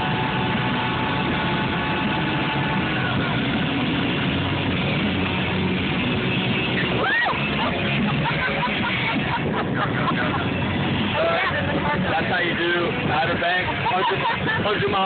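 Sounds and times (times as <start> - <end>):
music on car radio: 0.0 - 15.0
wind and road noise: 0.0 - 15.0.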